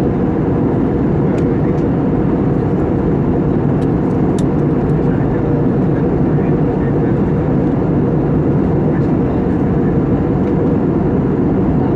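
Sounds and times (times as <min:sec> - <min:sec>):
airliner cabin drone: 0:00.0 - 0:11.9.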